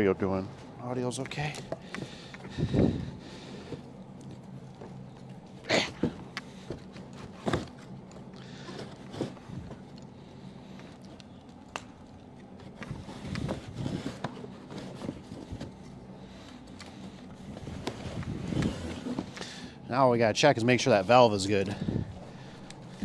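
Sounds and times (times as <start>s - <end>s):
handling boxed heater and packaging: 0.6s - 19.7s.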